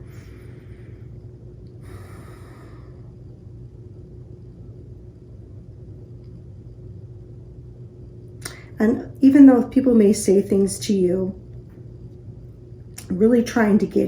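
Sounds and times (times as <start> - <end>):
faint constant tone: 0.0 - 14.0
low background hum: 0.0 - 14.0.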